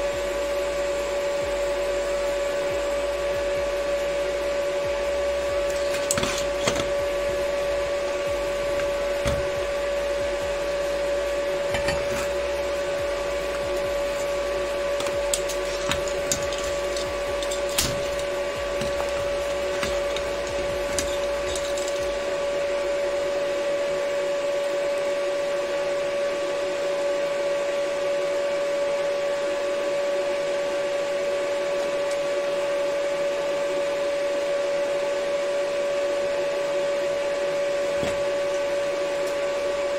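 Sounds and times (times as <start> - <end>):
steady machine hum: 0.0 - 39.9.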